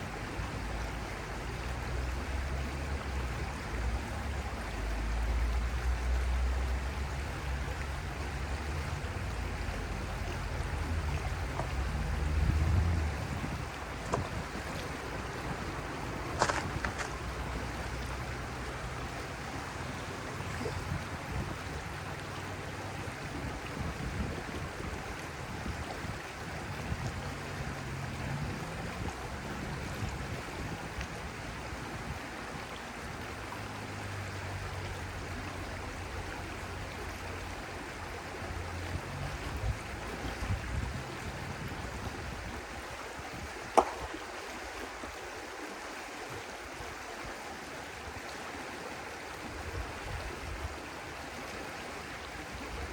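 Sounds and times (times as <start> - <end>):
water rushing: 0.0 - 52.9.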